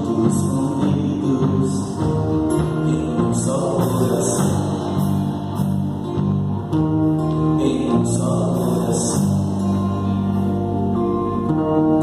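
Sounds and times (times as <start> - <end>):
live worship band playing: 0.0 - 12.0.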